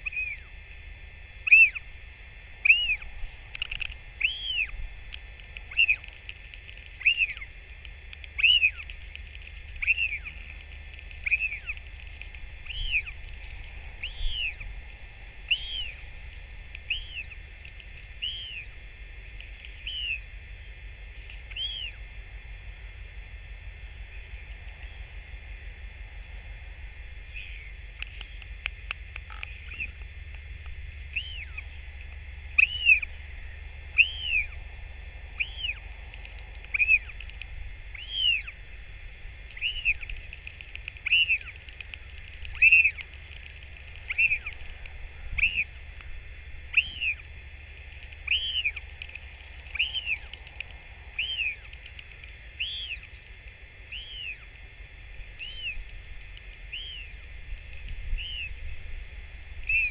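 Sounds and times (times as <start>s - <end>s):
bird calling: 0.0s - 0.6s, 1.3s - 2.0s, 2.6s - 22.0s, 27.2s - 58.8s, 59.5s - 59.9s
low steady rumble: 0.0s - 59.9s.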